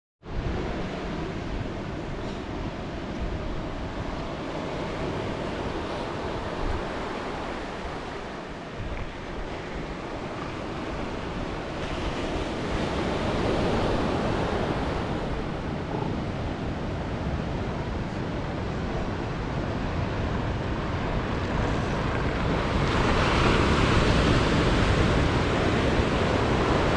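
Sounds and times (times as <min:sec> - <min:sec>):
wind buffeting microphone: 0:00.2 - 0:26.9
ocean surf washing ashore: 0:00.3 - 0:26.9.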